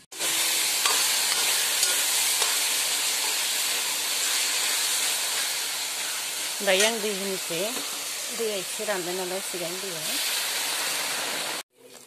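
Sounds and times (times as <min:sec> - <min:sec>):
vegetables sizzling in a wok: 0:00.0 - 0:12.0
metal spatula scraping a wok: 0:00.2 - 0:11.6.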